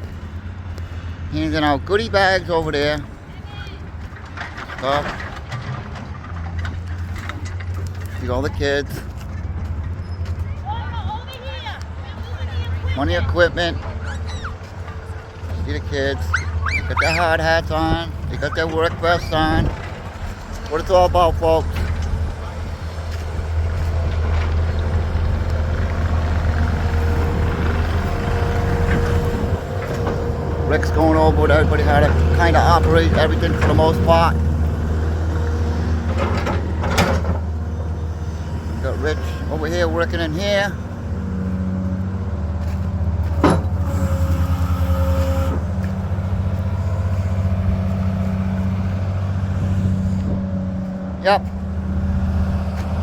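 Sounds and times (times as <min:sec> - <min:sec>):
heavy machinery engine rumbling: 0:00.0 - 0:53.0.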